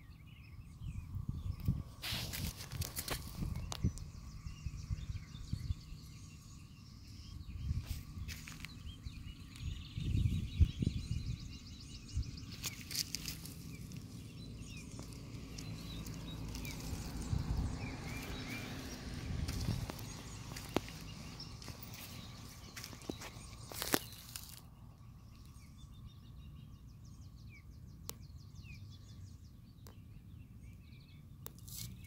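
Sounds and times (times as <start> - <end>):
low rumble on microphone: 0.0 - 29.3.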